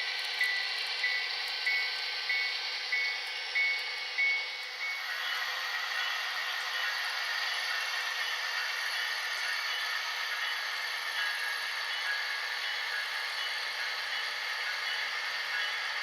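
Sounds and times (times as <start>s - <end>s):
model trains running on track: 0.0s - 16.0s.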